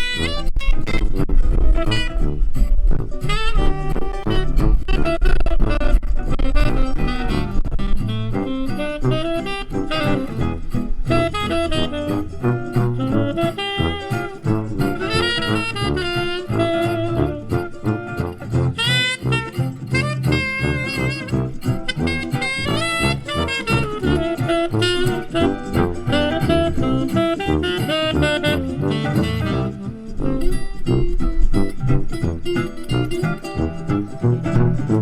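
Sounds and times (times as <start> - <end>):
double bass: 0.0 - 35.0
jazz lead solo: 0.0 - 35.0
rhythm guitar: 0.0 - 35.0.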